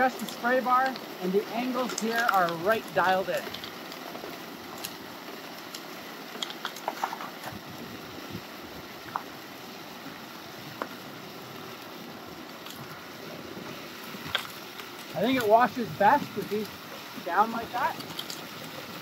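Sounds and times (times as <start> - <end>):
water spraying over gravel: 0.0 - 19.0.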